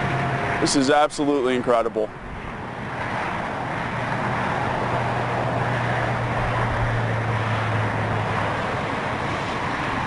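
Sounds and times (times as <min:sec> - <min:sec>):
outdoor background rush: 0:00.0 - 0:10.0.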